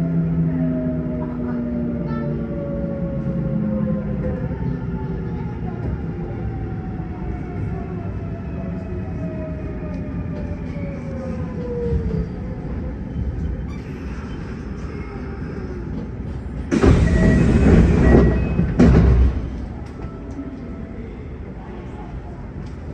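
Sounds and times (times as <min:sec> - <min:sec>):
train running rumble: 0:00.0 - 0:22.9.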